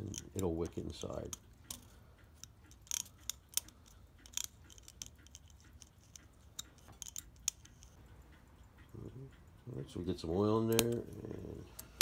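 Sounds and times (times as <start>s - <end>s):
metallic clicks of clock movement: 0.0s - 12.0s.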